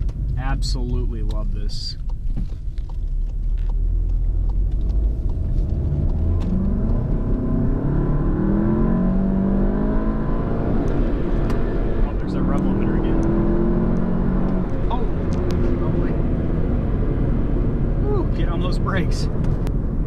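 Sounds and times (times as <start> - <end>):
car engine accelerating: 0.0 - 20.0
road rumble: 0.0 - 20.0.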